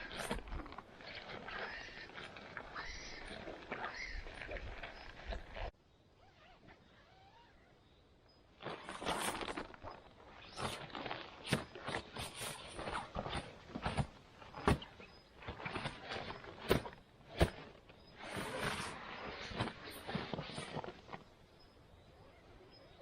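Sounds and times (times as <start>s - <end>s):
footsteps crunching through dry litter: 0.0s - 5.7s, 8.6s - 21.5s.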